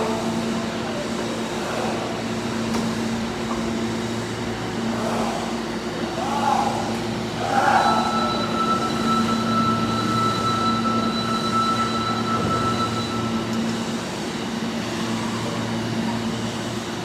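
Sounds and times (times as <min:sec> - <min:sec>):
train electrical hum: 0:00.0 - 0:17.0.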